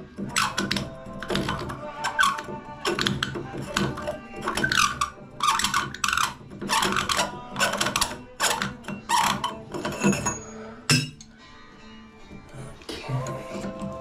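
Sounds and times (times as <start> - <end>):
metal-on-metal scraping: 0.1 - 11.5.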